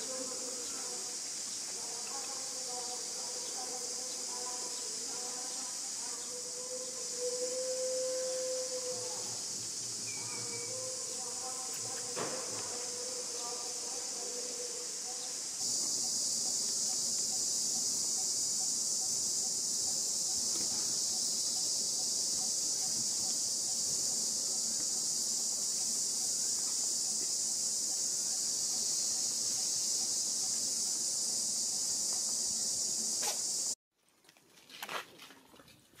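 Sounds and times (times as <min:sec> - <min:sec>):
insects droning: 0:00.0 - 0:33.8.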